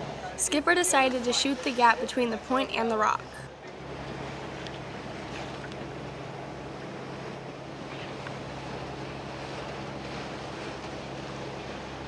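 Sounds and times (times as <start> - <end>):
boat engine drone: 0.0 - 12.0
water rushing past hull: 0.0 - 12.0.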